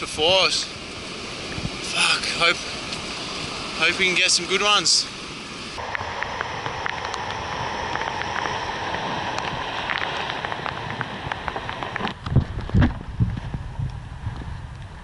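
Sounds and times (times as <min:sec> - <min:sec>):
surf breaking on rocks: 0:00.2 - 0:13.0.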